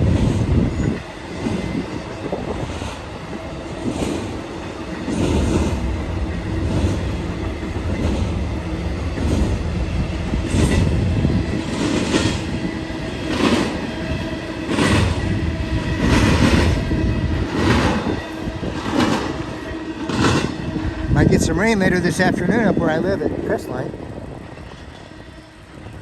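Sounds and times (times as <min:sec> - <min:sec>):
freight train rolling on track: 0:00.0 - 0:26.0.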